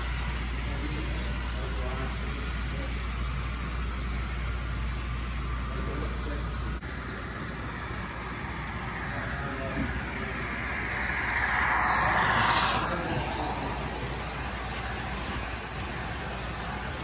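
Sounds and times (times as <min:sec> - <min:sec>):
low steady hum: 0:00.0 - 0:17.0
model train wheels rolling: 0:00.0 - 0:17.0.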